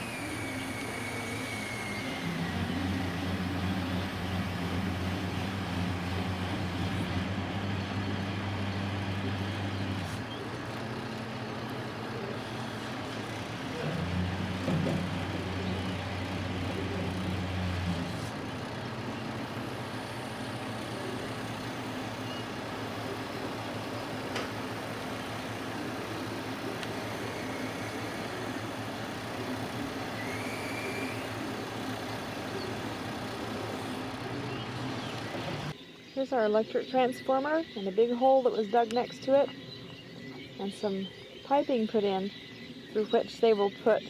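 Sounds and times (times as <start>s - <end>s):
heavy vehicle engine humming: 0.0s - 35.8s.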